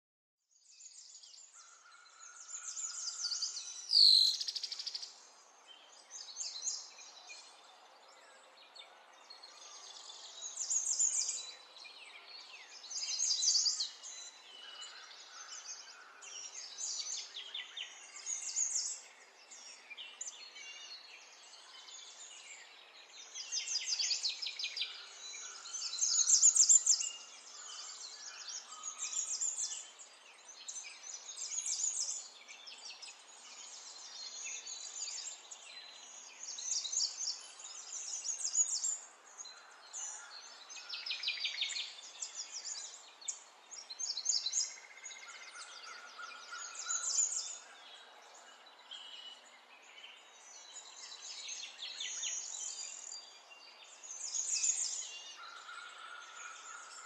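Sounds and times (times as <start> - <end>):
birds chirping and trilling: 0.6 - 57.0.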